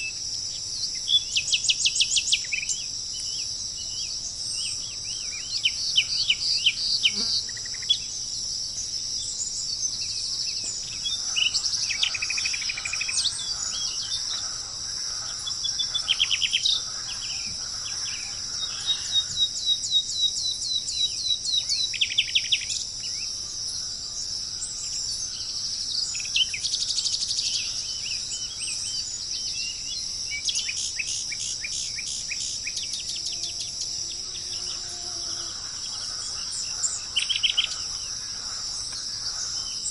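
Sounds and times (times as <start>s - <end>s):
high-pitched insect chorus: 0.0s - 39.9s
birds calling: 0.9s - 39.9s.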